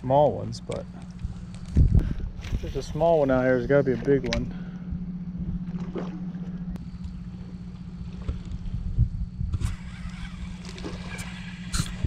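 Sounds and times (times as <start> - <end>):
low mechanical hum: 0.0 - 12.0
low rumble: 1.0 - 12.0.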